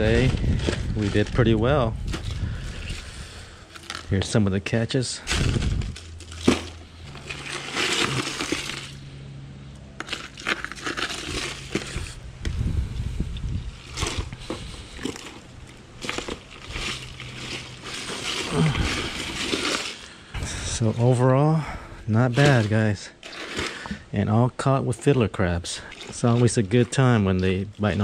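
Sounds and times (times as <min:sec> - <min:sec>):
ice crunching and clattering: 0:00.0 - 0:09.2, 0:09.8 - 0:12.6, 0:13.3 - 0:28.0.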